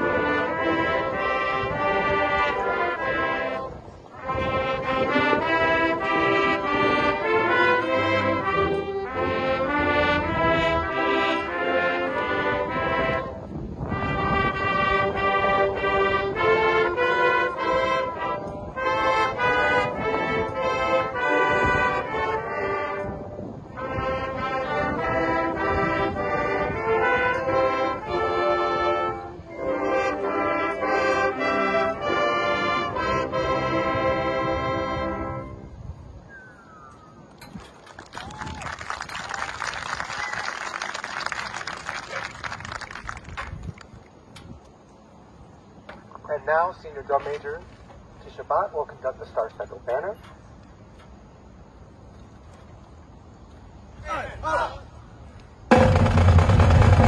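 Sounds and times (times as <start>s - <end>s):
marching band brass and winds: 0.0s - 57.0s.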